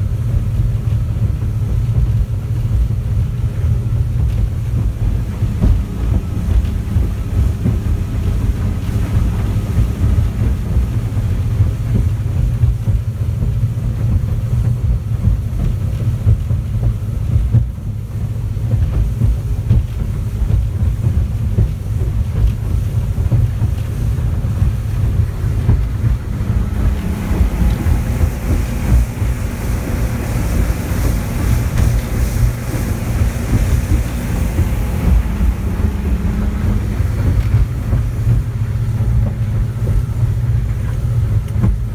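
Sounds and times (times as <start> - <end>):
boat engine drone: 0.0 - 41.9
hull slapping on waves: 0.0 - 41.9.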